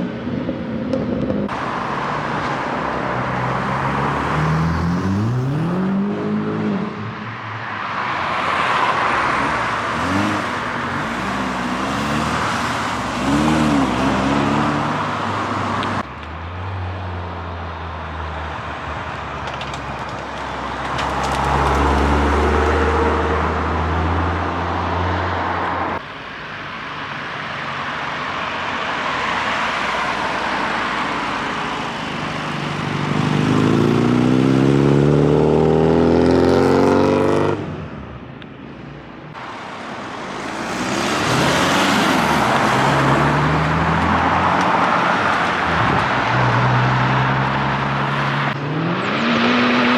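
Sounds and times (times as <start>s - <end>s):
car engine revving: 0.7s - 7.0s, 8.4s - 26.1s, 27.6s - 37.7s, 39.3s - 49.9s.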